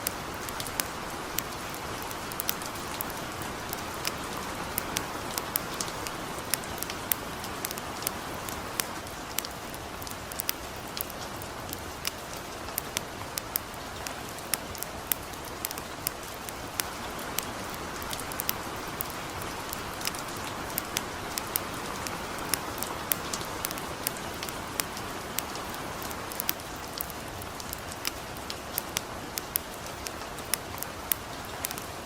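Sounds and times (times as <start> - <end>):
campfire crackling: 0.0 - 32.0
light rain falling: 0.0 - 32.0.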